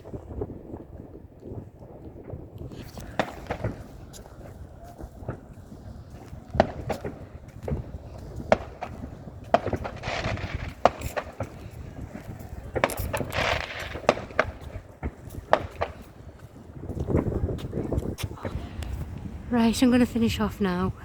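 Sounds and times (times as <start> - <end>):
footsteps on pavement: 0.0 - 21.0.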